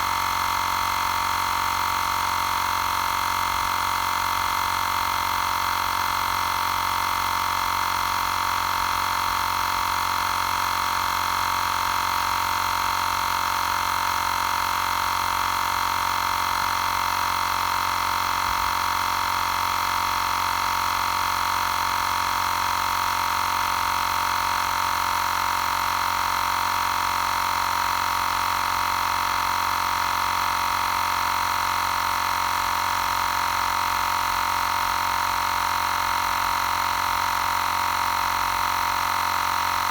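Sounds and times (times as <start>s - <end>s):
air compressor motor drone: 0.0s - 39.9s.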